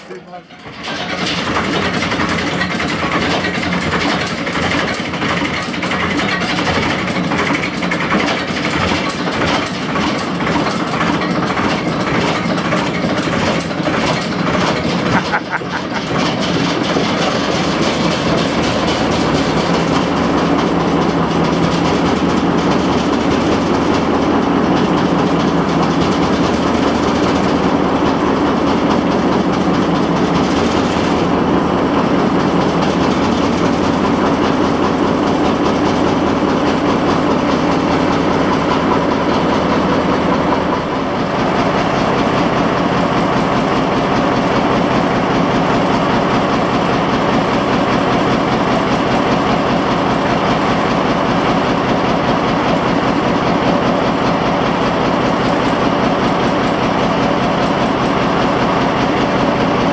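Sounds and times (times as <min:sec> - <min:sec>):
stationary engine clattering: 0:00.0 - 0:59.9.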